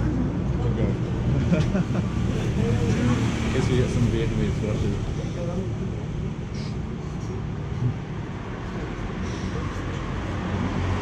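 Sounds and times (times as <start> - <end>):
road and vehicle rumble: 0.0 - 11.0.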